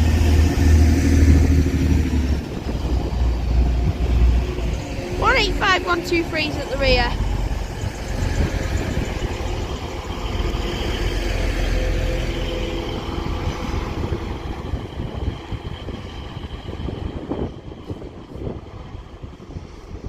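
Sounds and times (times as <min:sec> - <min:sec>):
diesel train engines: 0:00.0 - 0:20.0
train wheels on rails: 0:00.0 - 0:20.0.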